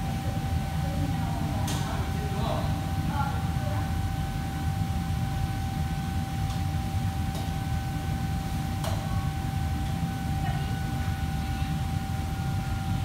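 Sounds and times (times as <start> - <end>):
constant high hum: 0.0 - 13.0.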